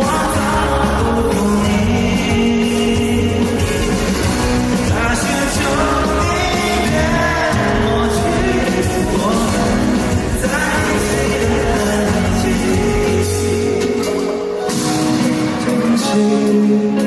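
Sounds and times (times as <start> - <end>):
man singing into microphone: 0.0 - 14.4, 15.7 - 17.0
band playing: 0.0 - 17.0.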